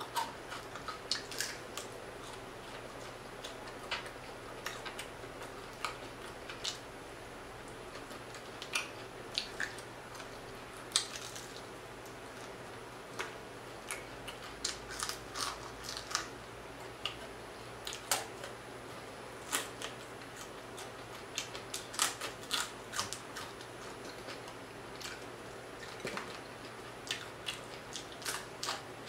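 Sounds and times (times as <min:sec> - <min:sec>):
crisp crunching while eating: 0:00.0 - 0:06.9, 0:07.7 - 0:29.0.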